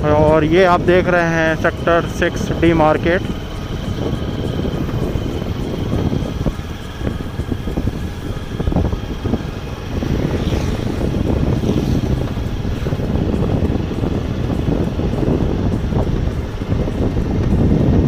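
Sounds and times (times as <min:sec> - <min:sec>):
road and engine noise: 0:00.0 - 0:18.0
wind noise on microphone: 0:00.0 - 0:18.0.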